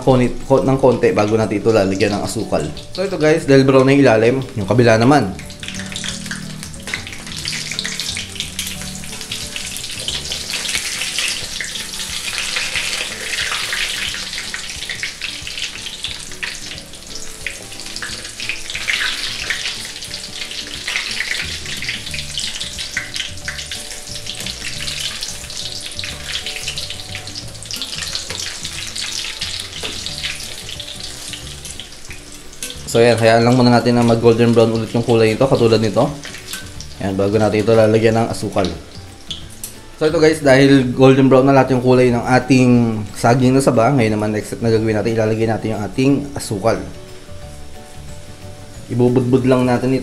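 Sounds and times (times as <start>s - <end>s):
bananas sizzling in hot oil: 0.0s - 50.0s.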